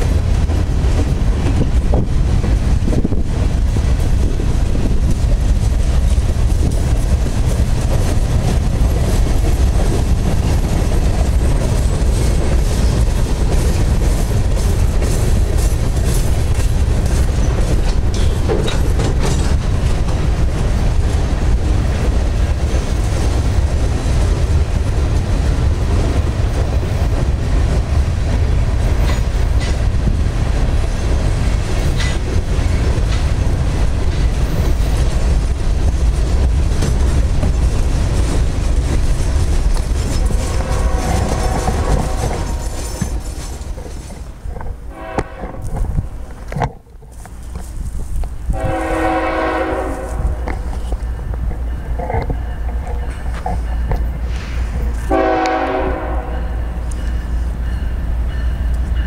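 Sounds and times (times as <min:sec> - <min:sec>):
freight train wheels rumbling on rail: 0:00.0 - 0:59.0
train wheels clattering: 0:00.0 - 0:59.0.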